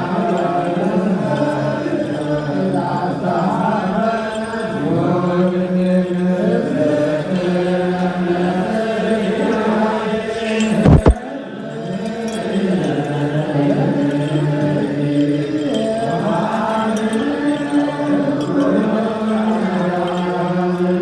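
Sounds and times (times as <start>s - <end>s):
voices chanting in long notes: 0.0s - 21.0s.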